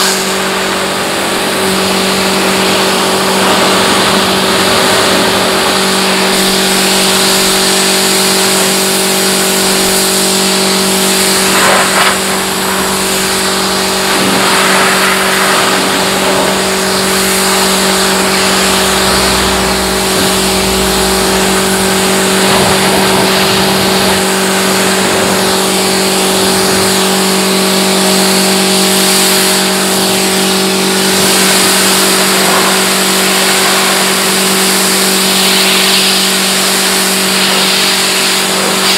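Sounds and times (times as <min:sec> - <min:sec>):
pressure washer motor hum: 0:00.0 - 0:38.9
water jet hissing: 0:00.0 - 0:38.9.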